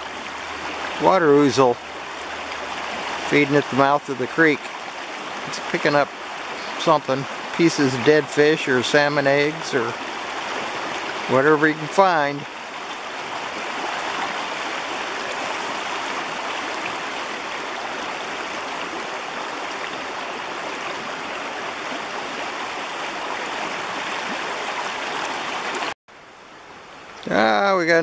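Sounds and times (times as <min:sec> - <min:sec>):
creek water rushing over stones: 0:00.0 - 0:26.0.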